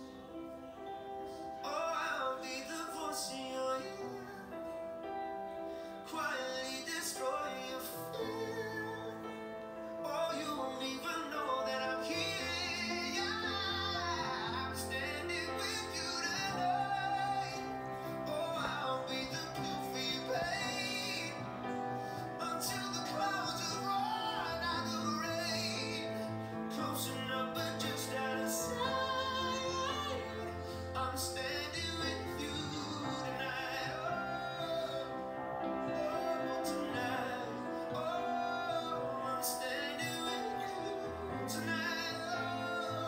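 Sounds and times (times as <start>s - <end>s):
guitar accompaniment: 0.0s - 43.0s
man singing: 0.0s - 43.0s.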